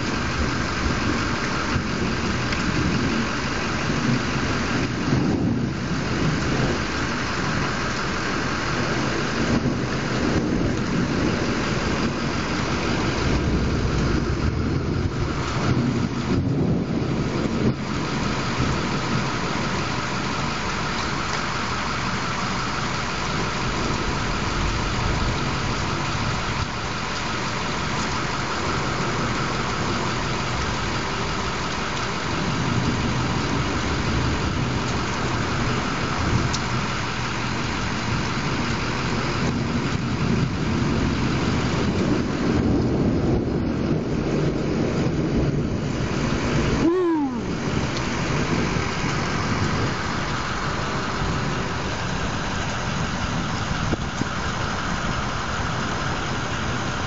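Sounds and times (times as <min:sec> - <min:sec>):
heavy rain hissing: 0:00.0 - 0:57.0
thunder rumbling: 0:00.0 - 0:57.0.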